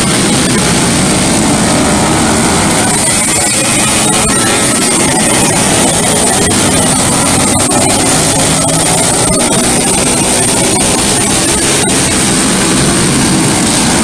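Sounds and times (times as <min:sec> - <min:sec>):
go-kart engine: 0:00.0 - 0:14.0.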